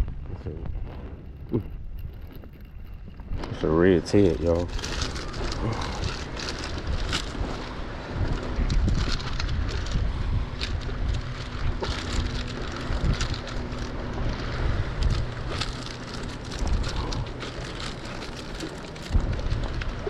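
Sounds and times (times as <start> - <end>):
crackles and clicks: 0.0 - 20.0
faint motor hum: 0.0 - 20.0
wind buffeting microphone: 0.0 - 20.0.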